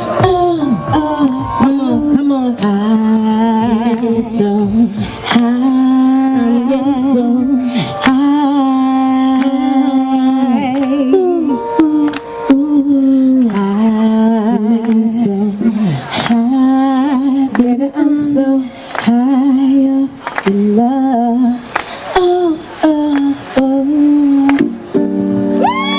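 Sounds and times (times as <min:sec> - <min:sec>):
woman singing wordless runs: 0:00.0 - 0:24.8.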